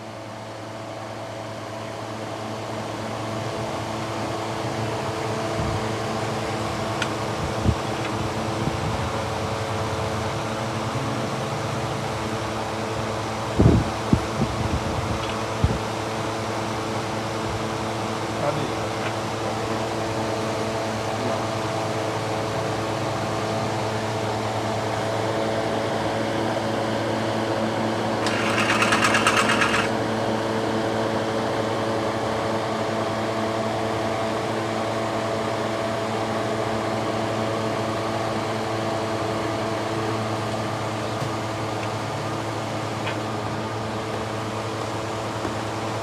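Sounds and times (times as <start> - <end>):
mechanical hum with fixed tones: 0.0 - 46.0.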